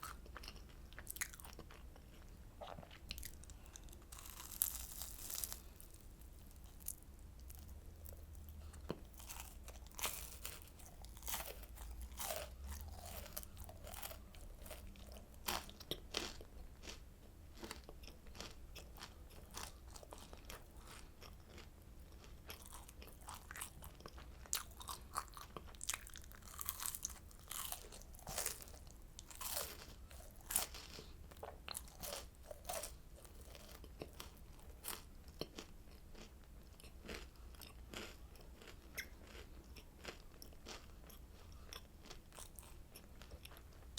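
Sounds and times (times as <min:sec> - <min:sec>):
crunching and chewing candy: 0:00.0 - 0:43.9
low steady hum: 0:00.0 - 0:43.9.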